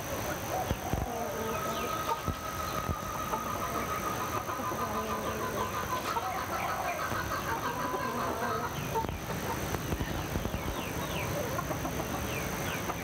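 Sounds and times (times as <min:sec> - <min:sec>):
chickens clucking: 0:00.0 - 0:13.0
small birds calling: 0:00.0 - 0:13.0.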